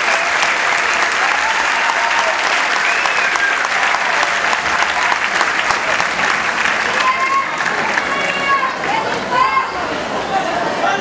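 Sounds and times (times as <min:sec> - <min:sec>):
audience applauding: 0:00.0 - 0:10.5
high calls from crowd: 0:00.0 - 0:11.0.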